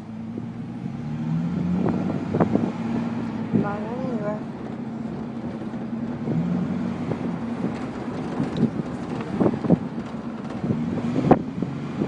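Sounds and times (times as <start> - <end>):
truck engine and road noise: 0.0 - 12.0
wind rushing over microphone: 0.1 - 12.0.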